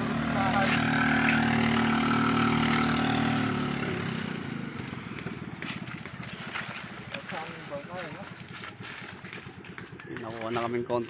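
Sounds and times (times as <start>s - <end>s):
motor engine running: 0.0s - 11.0s.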